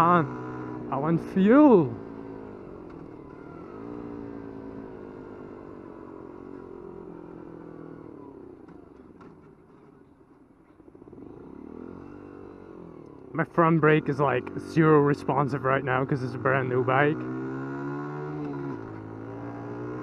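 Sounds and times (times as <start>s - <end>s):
small motorcycle engine revving: 0.0s - 9.9s, 10.8s - 20.0s.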